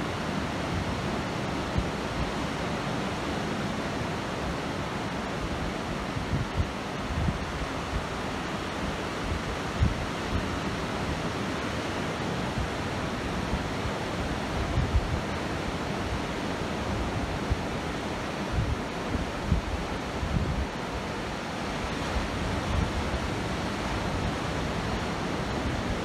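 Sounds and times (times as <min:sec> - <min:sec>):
wind gusts on microphone: 0:00.0 - 0:26.0.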